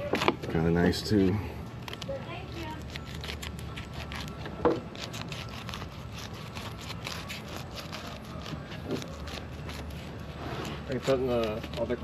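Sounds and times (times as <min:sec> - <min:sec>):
knife scraping through fish scales: 0:01.9 - 0:12.0.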